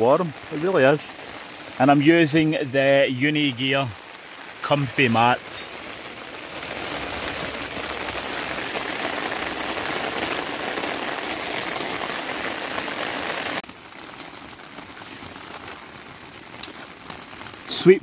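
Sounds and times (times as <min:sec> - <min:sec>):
rain falling on a tent: 0:00.0 - 0:18.0.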